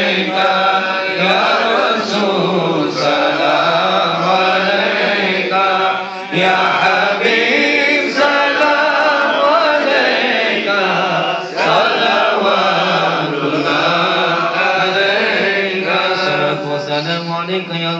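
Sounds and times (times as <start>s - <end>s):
man chanting into a microphone: 0.0s - 9.9s, 12.5s - 17.9s.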